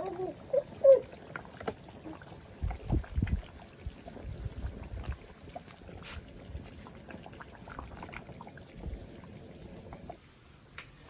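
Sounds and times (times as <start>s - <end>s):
liquid pouring and sloshing: 0.0s - 10.2s.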